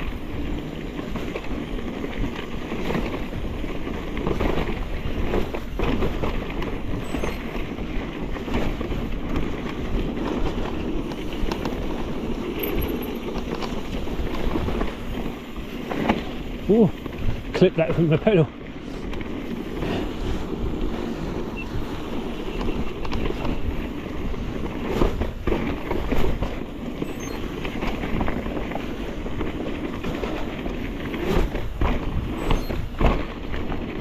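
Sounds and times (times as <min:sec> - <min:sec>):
bike tyre rumble: 0:00.0 - 0:34.0
wind buffeting microphone: 0:00.0 - 0:34.0.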